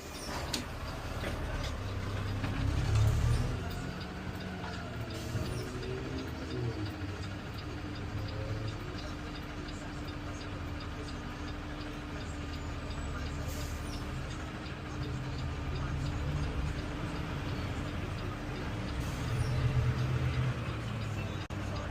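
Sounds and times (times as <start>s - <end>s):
garbage truck engine rumbling: 0.0s - 21.9s
light regular ticking: 0.2s - 21.9s.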